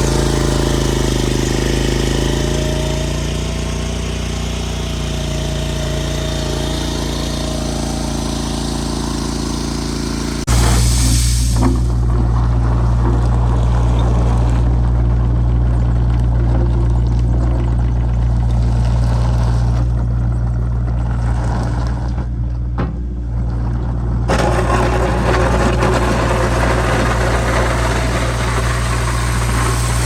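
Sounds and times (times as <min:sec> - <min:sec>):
rough harsh machine noise: 0:00.0 - 0:30.0
trencher engine humming: 0:00.0 - 0:30.0.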